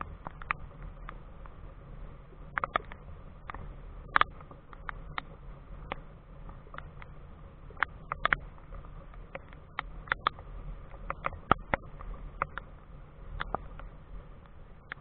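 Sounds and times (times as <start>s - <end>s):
low background rumble: 0.0s - 15.0s
raindrops tapping on camera: 0.0s - 15.0s.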